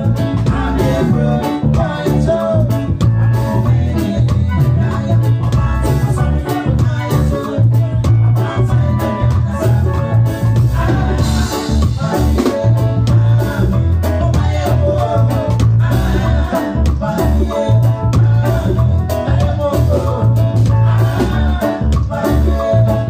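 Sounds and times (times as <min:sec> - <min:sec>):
bass guitar line: 0:00.0 - 0:23.0
drum kit and hand drum beat: 0:00.0 - 0:23.0
man singing lead vocal: 0:00.0 - 0:23.0.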